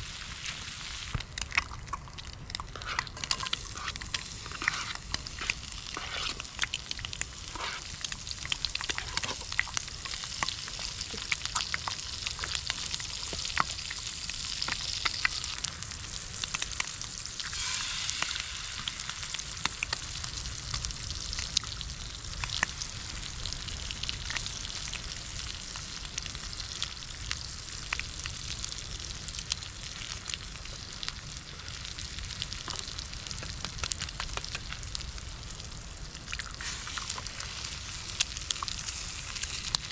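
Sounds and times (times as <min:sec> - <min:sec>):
food sizzling with crackles and pops: 0:00.0 - 0:39.9.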